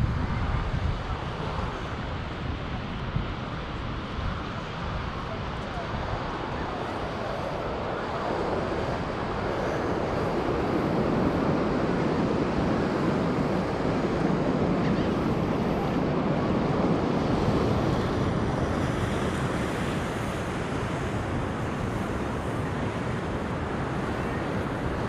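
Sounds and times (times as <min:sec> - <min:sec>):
surf breaking on beach: 0:00.0 - 0:25.0
wind on microphone: 0:00.0 - 0:25.0.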